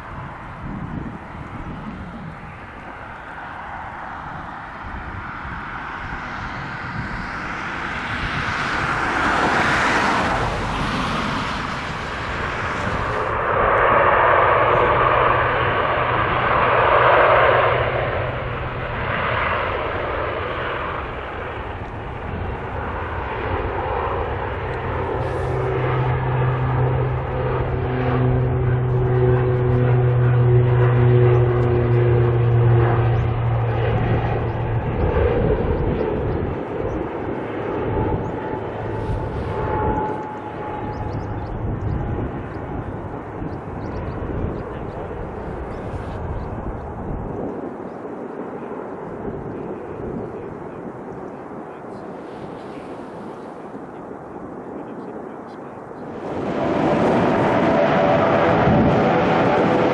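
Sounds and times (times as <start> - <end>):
turboprop engines and propellers: 0.0 - 59.9.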